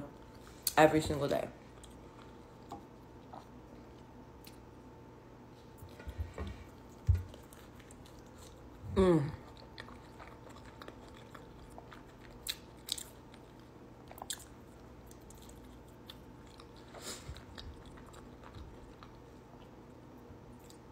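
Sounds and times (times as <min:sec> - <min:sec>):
faint steady hum: 0:00.0 - 0:20.9
person chewing food: 0:01.7 - 0:04.7, 0:05.7 - 0:20.9.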